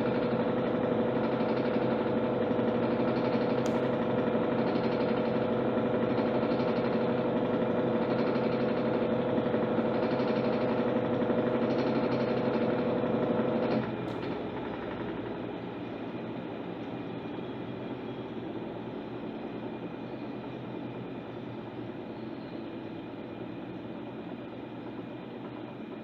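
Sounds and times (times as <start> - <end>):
quiet whir: 0.0 - 26.0
washing machine motor hum: 0.0 - 26.0.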